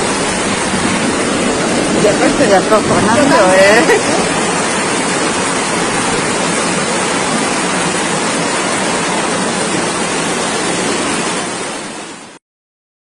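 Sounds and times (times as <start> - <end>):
rushing floodwater: 0.0 - 12.4
torrential rain: 0.0 - 12.4.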